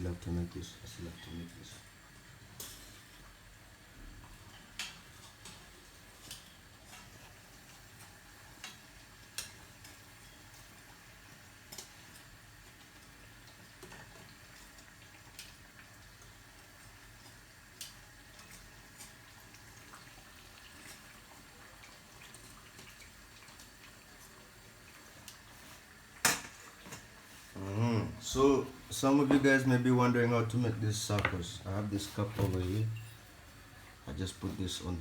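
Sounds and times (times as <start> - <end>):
pancakes sizzling in hot oil: 0.6 - 30.3.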